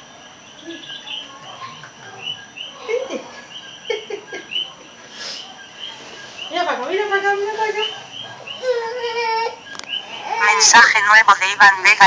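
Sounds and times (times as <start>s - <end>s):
small animals chirping: 0.0s - 12.0s.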